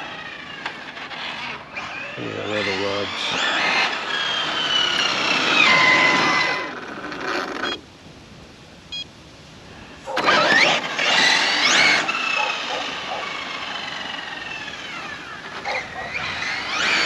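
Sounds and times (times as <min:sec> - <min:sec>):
toy car motor whine: 0:00.0 - 0:07.8, 0:10.1 - 0:17.0.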